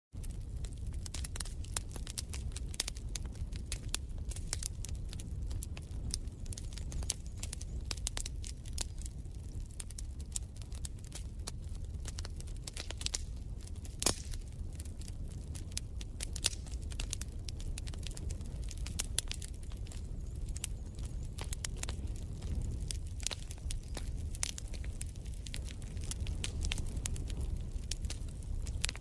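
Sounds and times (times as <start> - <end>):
wood fire crackling: 0.1 - 29.0.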